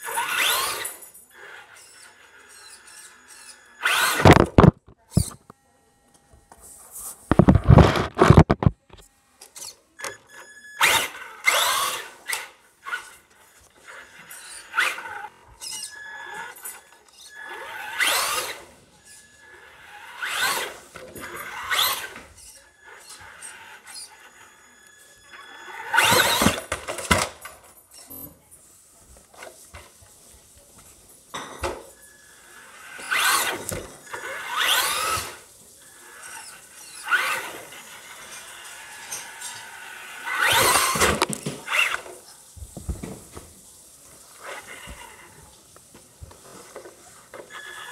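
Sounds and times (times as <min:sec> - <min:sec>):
rc car motor whining: 0:00.0 - 0:05.5, 0:07.3 - 0:28.2, 0:31.9 - 0:42.5, 0:44.2 - 0:45.8, 0:46.4 - 0:47.9.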